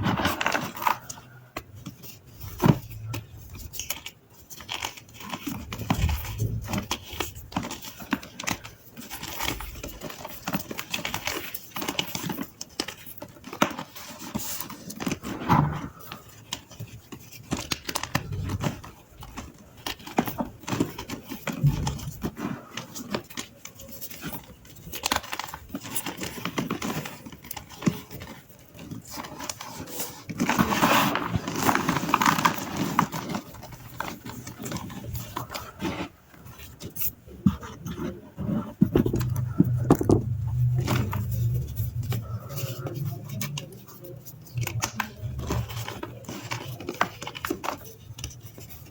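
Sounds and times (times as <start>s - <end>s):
chalk crunching and crackling: 0.0s - 48.9s.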